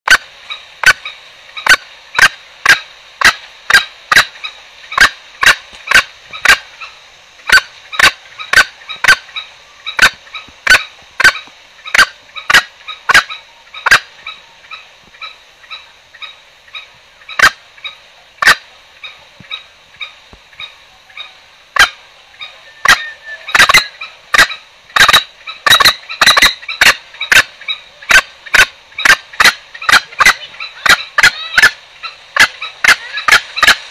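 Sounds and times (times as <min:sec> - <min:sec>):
junglefowl sharp calls: 0:00.1 - 0:33.9.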